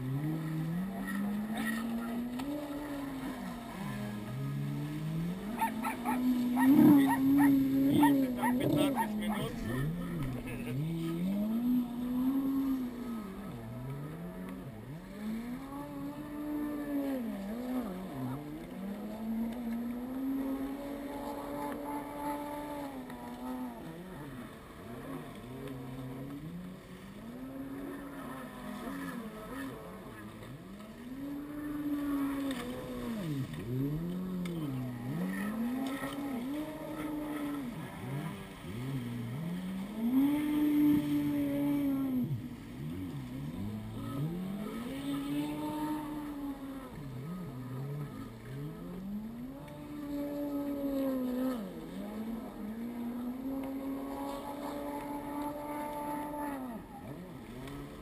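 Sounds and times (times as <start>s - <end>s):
jet ski engines revving: 0.0s - 58.0s.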